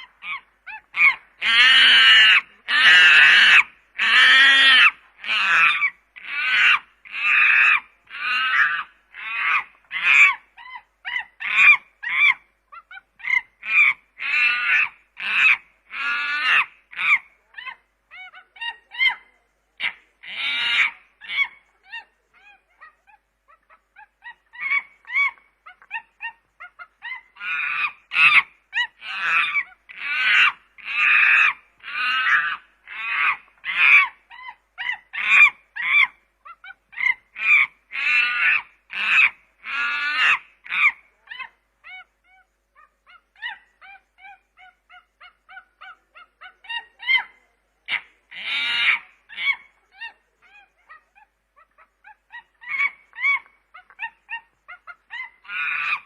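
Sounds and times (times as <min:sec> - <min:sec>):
chimpanzee hooting and screaming: 0:00.0 - 0:56.0.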